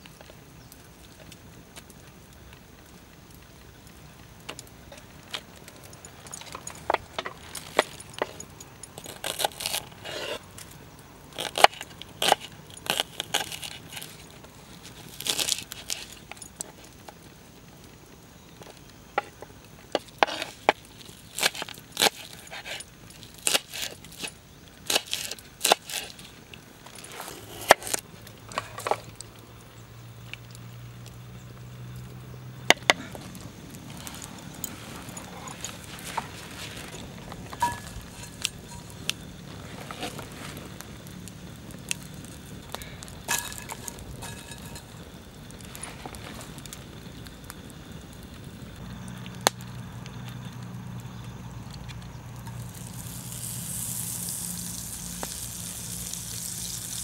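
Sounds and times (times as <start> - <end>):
sharp clicks and crackles: 0.0 - 57.0.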